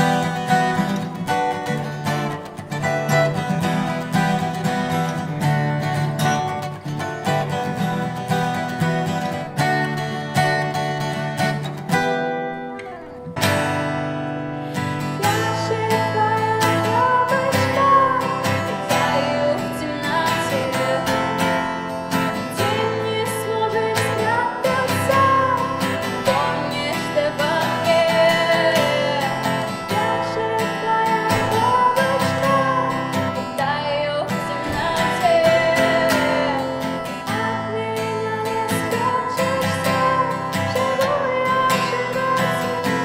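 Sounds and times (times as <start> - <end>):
strummed acoustic guitar: 0.0 - 43.0.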